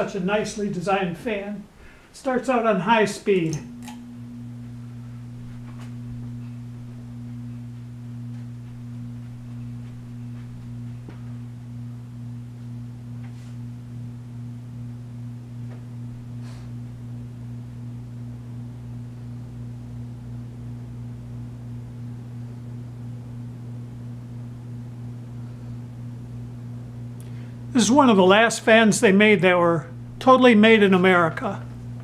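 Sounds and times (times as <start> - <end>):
ceiling fan motor hum: 0.0 - 32.0.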